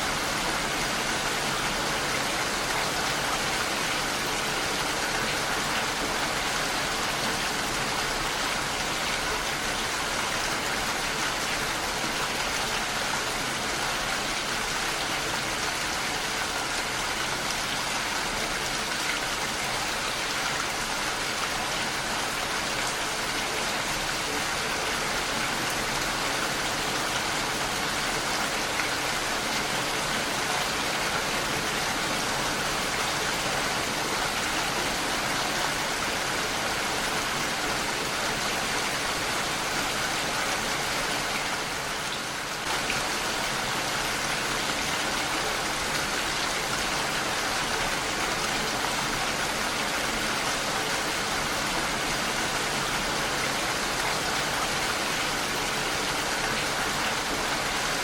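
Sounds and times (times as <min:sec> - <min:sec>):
heavy rain on a window: 0:00.0 - 0:58.0.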